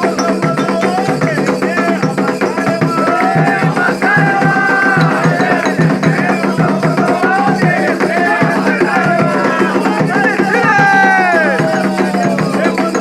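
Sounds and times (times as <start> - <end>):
clacking wood block or bell: 0.0 - 13.0
hand drums beating: 0.0 - 13.0
voices singing a chant: 0.0 - 13.0.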